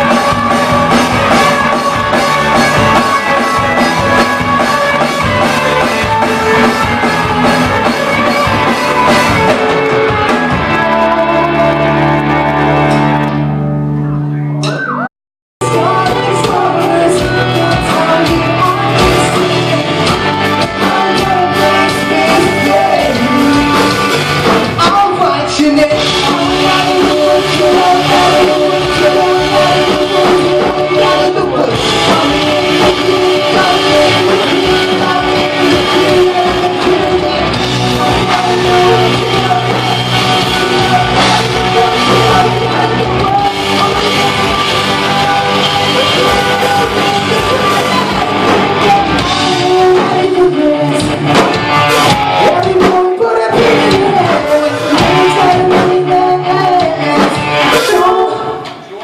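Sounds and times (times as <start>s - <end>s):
person singing: 0.0s - 13.4s, 14.2s - 59.0s
rock band playing live: 0.0s - 59.0s.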